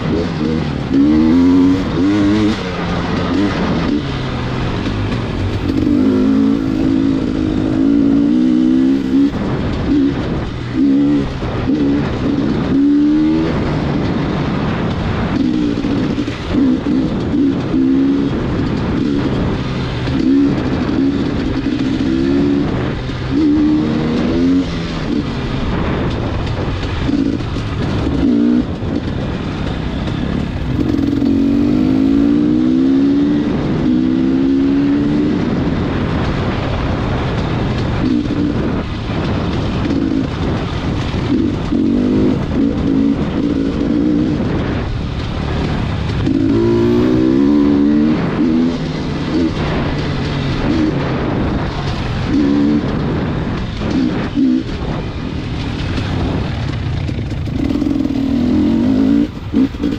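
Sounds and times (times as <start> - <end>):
road and wind noise: 0.0 - 59.9
vehicle engine accelerating: 0.0 - 59.9.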